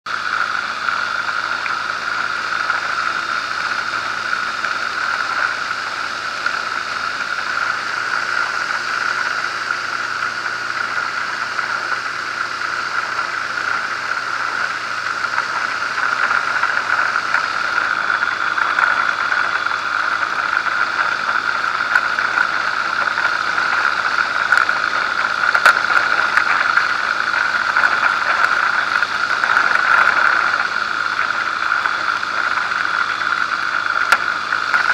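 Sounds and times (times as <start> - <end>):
plane engine and propeller running: 0.1 - 34.9.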